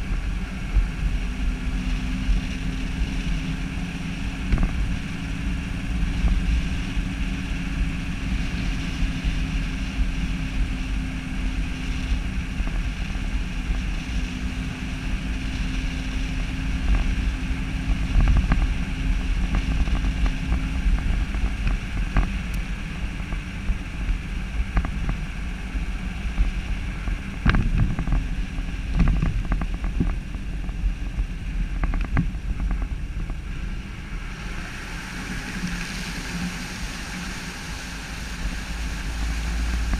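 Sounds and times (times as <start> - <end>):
tires on wet pavement: 0.0 - 39.9
vehicle engine running: 0.0 - 39.9
wind buffeting microphone: 0.0 - 39.9.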